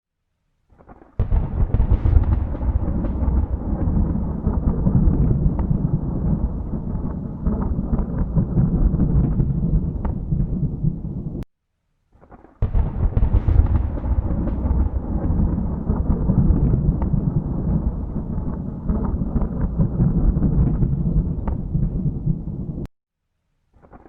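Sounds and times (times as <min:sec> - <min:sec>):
thunder crackles: 0:00.8 - 0:11.5, 0:12.6 - 0:22.9
thunder rumbling: 0:01.2 - 0:11.4, 0:12.6 - 0:22.9.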